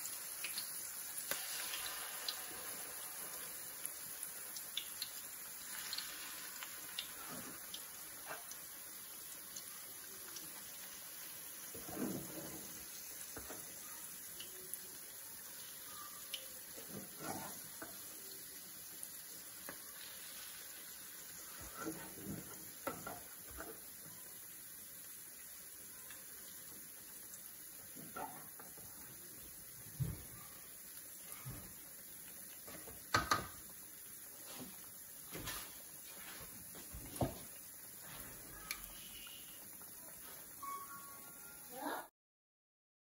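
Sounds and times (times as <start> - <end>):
fritters sizzling in oil: 0.0 - 41.9.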